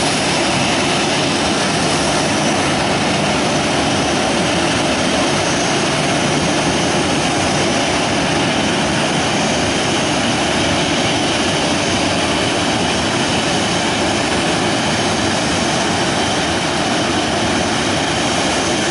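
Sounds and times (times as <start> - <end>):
jet engines idling: 0.0 - 18.9.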